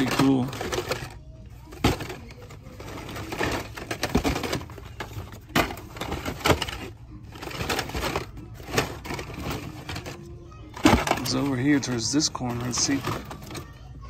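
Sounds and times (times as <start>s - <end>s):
cardboard rustling: 0.0s - 13.8s
plastic packs clacking: 0.0s - 14.0s.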